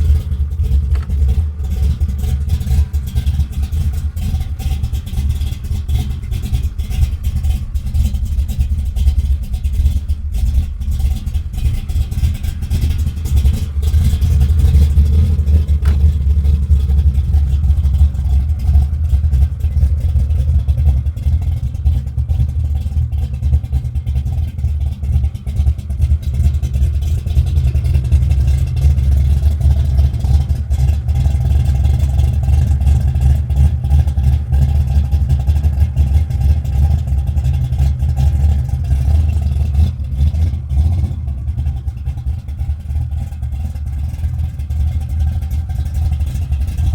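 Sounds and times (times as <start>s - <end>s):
car engine with deep exhaust: 0.0s - 46.9s.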